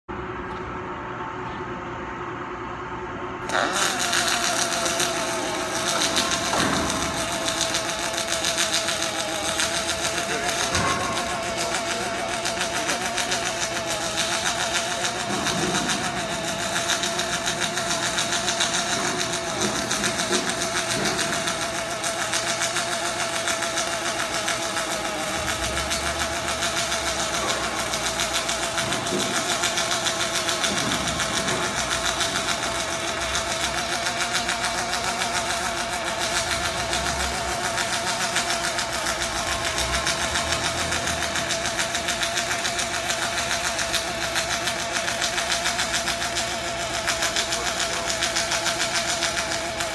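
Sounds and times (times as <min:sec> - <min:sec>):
steady whine: 0:00.1 - 0:49.9
electric welding arc crackling: 0:03.4 - 0:49.9.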